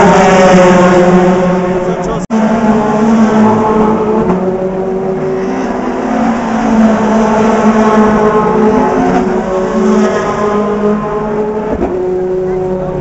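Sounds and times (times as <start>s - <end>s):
race cars passing at speed: 0.0s - 13.0s.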